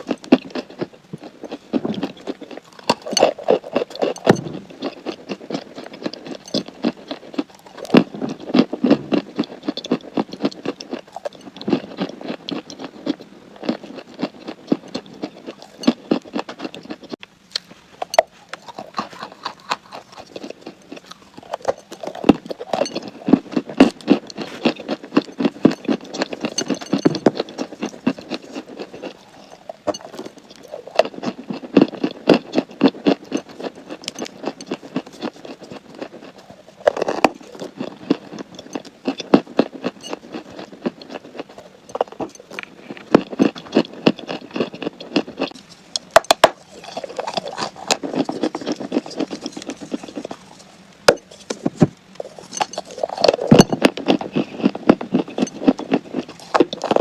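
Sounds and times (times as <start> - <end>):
chalk being chewed: 0.0 - 57.0.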